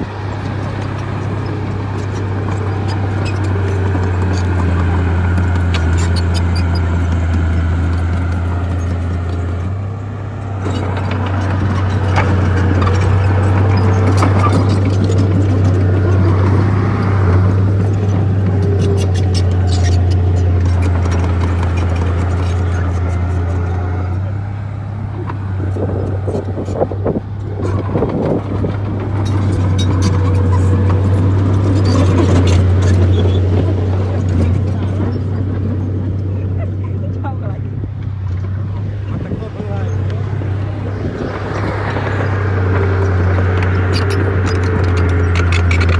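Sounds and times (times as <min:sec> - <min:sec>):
bulldozer diesel engine: 0:00.0 - 0:45.9
crawler tracks clanking and squeaking: 0:00.0 - 0:45.9.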